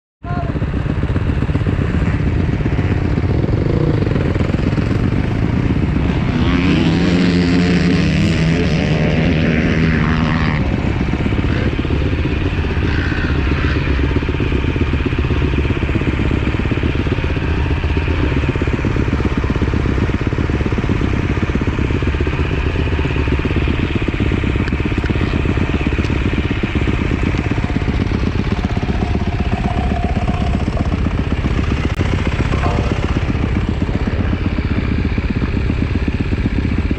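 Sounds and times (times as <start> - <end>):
motocross bike engine running: 0.2 - 36.9.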